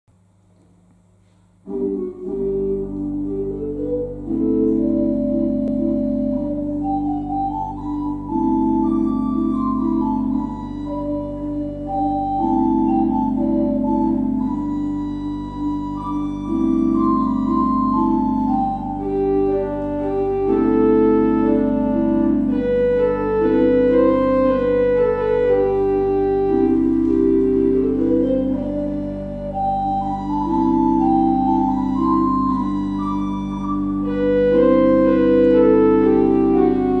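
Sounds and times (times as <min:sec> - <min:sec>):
church organ playing chords: 0:01.2 - 0:37.0.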